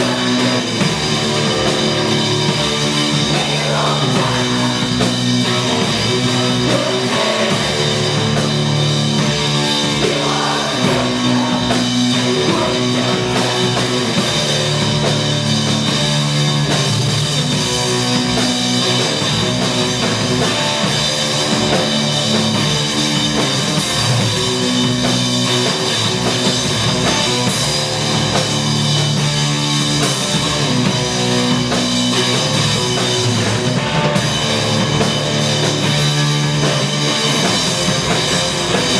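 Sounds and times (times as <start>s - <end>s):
drum kit beat: 0.0s - 38.9s
live rock band playing: 0.0s - 38.9s.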